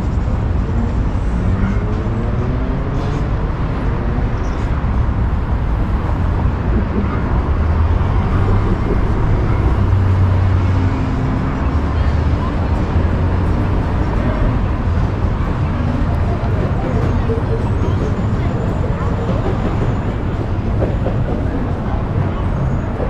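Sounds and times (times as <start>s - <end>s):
vehicle engines rumbling: 0.0s - 23.0s.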